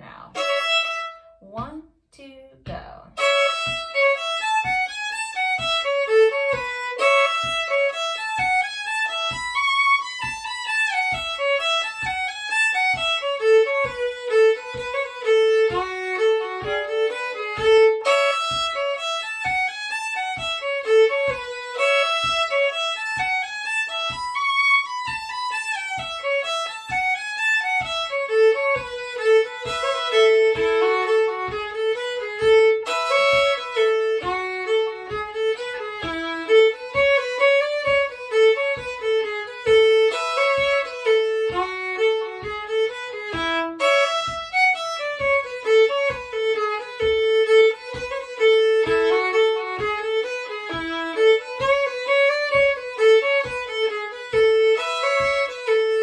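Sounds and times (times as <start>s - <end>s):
solo fiddle bluegrass tune: 0.0s - 1.7s, 2.8s - 56.0s
faint low taps: 2.6s - 56.0s.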